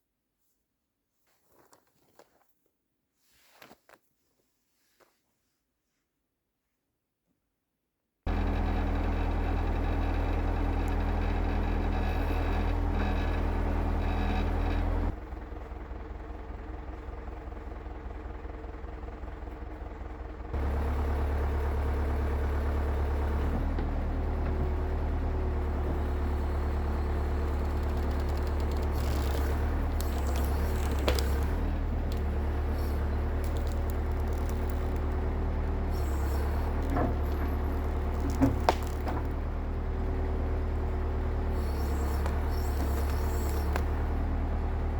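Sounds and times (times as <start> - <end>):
diesel engine running: 8.3 - 44.9.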